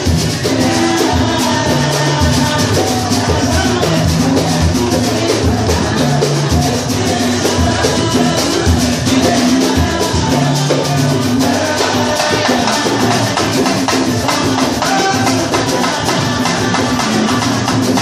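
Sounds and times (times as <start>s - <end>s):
samba percussion ensemble: 0.0s - 18.0s.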